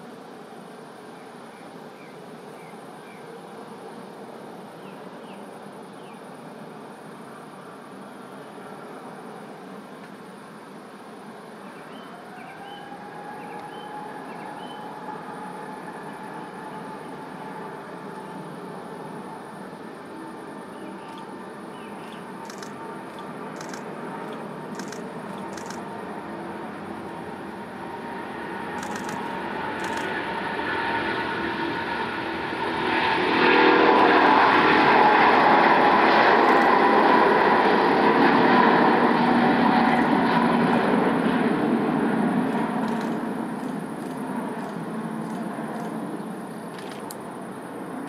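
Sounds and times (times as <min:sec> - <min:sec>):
jet engines roaring at takeoff: 0:00.0 - 0:48.0.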